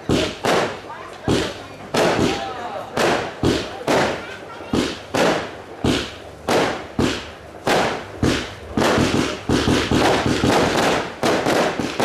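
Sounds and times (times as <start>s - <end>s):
fireworks bangs with rumble: 0.0s - 12.0s.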